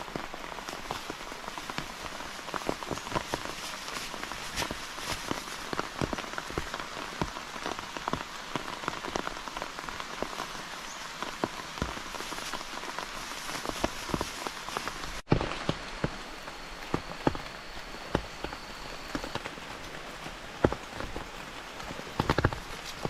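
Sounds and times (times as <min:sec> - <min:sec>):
raindrops tapping: 0:00.0 - 0:23.0
steady rain: 0:00.0 - 0:23.0.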